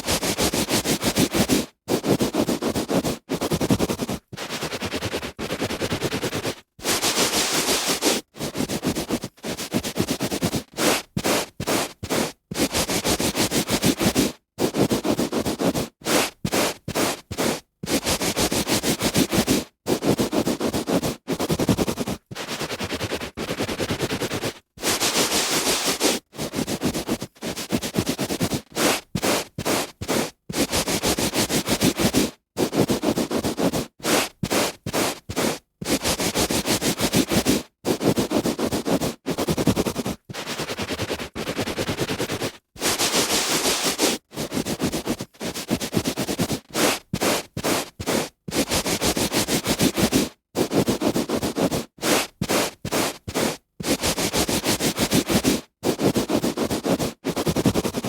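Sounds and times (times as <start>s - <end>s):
hand rubbing on carpet: 0.0s - 58.0s.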